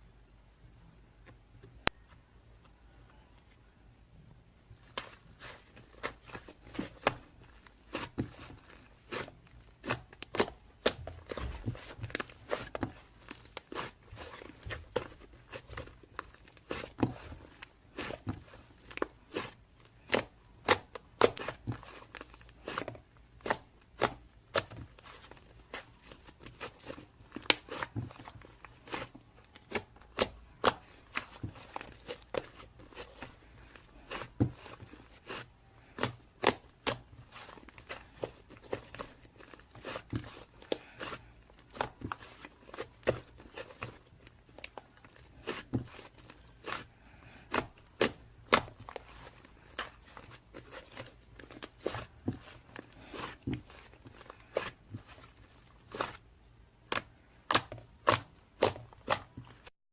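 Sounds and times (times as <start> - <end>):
clicks and crinkles of handling: 4.7 - 59.7.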